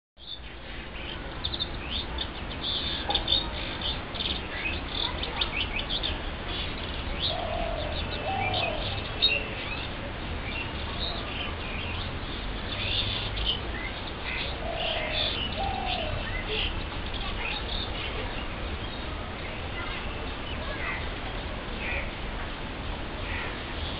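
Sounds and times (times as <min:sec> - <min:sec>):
songbirds chirping: 0:00.2 - 0:23.9.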